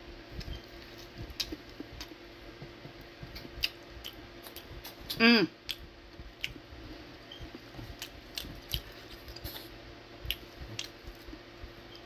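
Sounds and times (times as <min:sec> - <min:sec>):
eating and chewing noises: 0:00.1 - 0:12.0.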